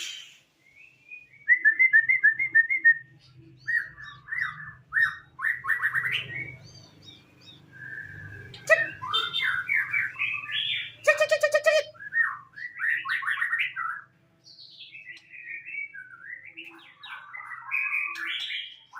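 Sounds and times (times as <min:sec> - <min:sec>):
bird singing whistled phrases: 0:00.0 - 0:06.6, 0:07.5 - 0:14.1, 0:14.9 - 0:18.9.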